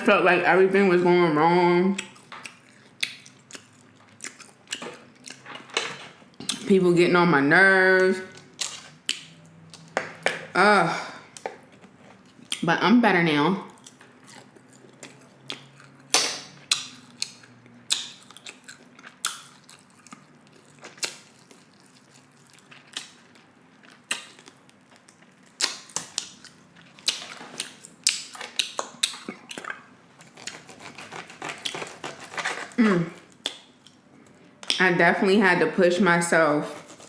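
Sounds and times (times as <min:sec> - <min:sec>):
person chewing food: 0:02.0 - 0:06.6, 0:08.4 - 0:10.5, 0:11.2 - 0:12.6, 0:13.7 - 0:34.8, 0:36.6 - 0:37.0.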